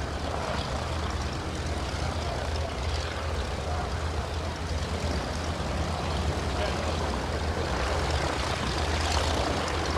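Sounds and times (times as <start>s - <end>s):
rotary aircraft engine flying past: 0.0s - 9.9s.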